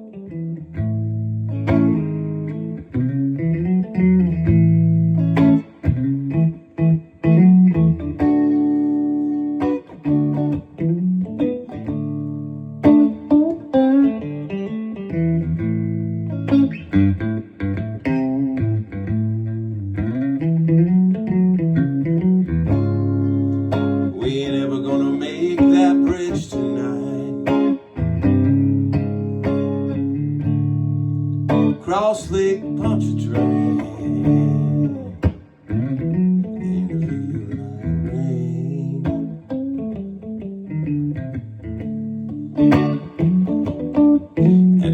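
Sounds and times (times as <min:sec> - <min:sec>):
guitar playing: 0:00.0 - 0:44.9.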